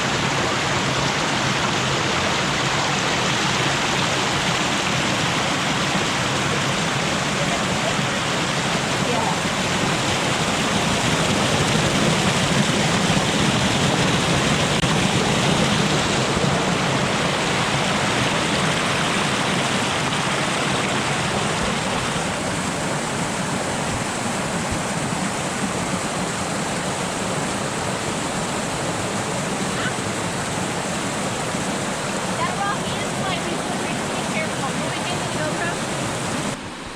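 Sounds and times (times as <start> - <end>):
river water rushing over rocks: 0.0 - 36.9.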